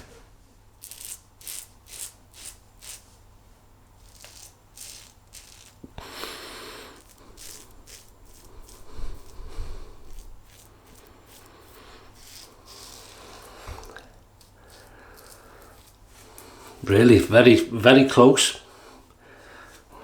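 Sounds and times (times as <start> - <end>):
razor scraping stubble: 0.8 - 3.2, 4.0 - 18.0.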